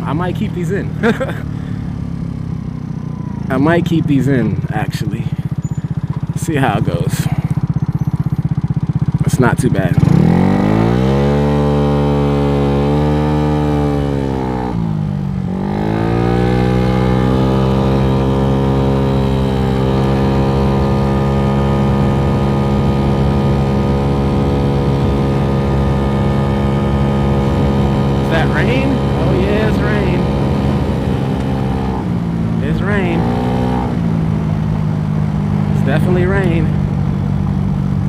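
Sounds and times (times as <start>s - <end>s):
scooter engine running: 0.0s - 38.0s.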